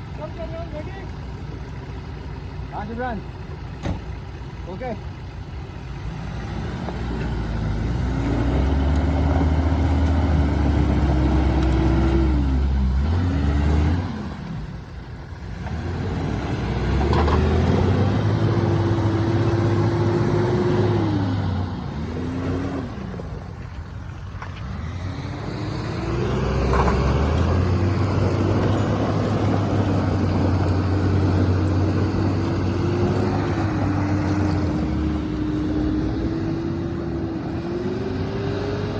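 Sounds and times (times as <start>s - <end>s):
car engine revving: 5.8s - 38.9s.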